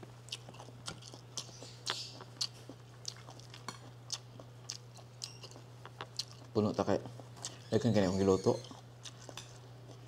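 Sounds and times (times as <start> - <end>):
wet chewing and light crunches: 0.0 - 7.8, 8.5 - 10.0
low steady hum: 0.0 - 10.0.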